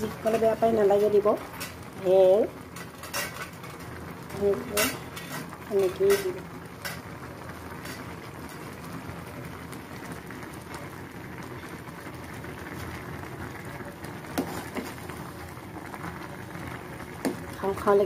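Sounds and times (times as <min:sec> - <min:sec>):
noodles boiling in a saucepan: 0:00.0 - 0:18.0.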